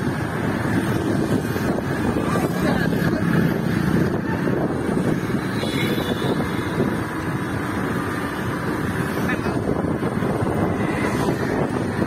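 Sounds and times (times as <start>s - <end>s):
moving vehicle rumble: 0.0s - 12.0s
wind buffeting microphone: 0.0s - 12.0s.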